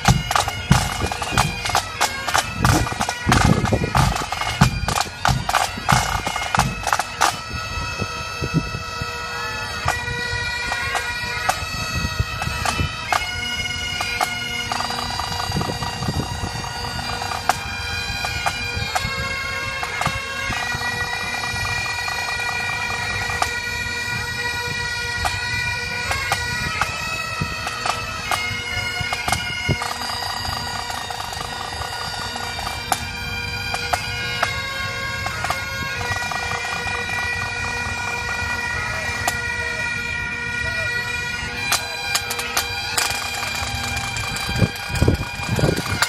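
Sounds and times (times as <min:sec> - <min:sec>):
bagpipes playing: 0:00.0 - 0:46.0.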